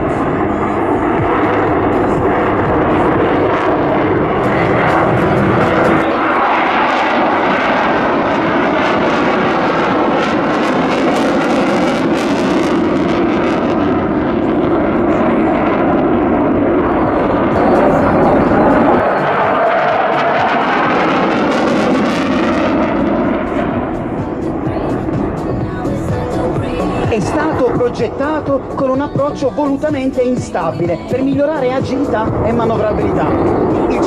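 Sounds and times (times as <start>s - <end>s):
fighter jet roaring past: 0.0s - 34.0s.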